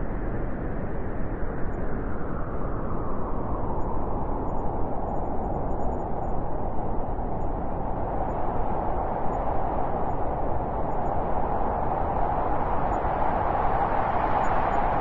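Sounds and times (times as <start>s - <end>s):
howling wind: 0.0s - 15.0s.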